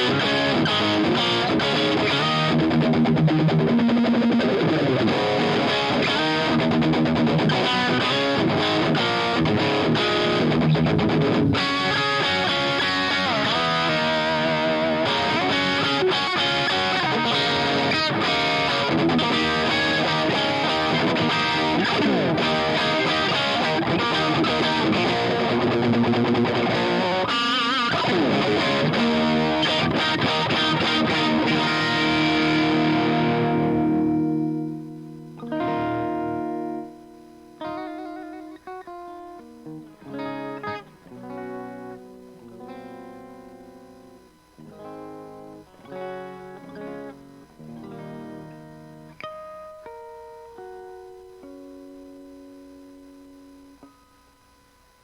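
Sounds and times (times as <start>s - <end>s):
electric guitar playing: 0.0s - 54.4s.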